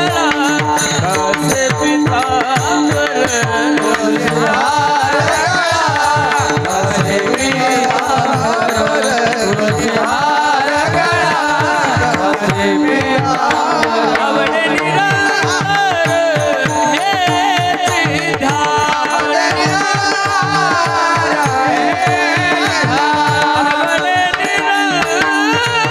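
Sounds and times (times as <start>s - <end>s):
person singing: 0.0s - 25.9s.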